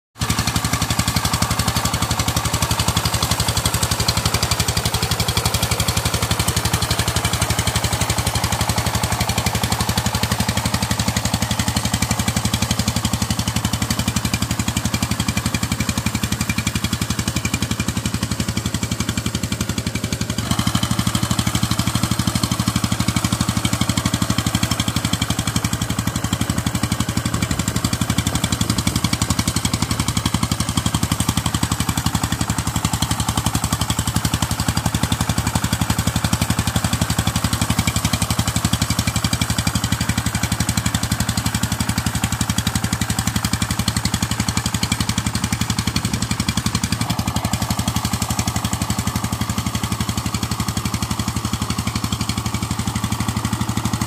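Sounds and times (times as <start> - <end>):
diesel engine chugging: 0.2 - 54.0
rotary tiller churning mud: 0.2 - 54.0.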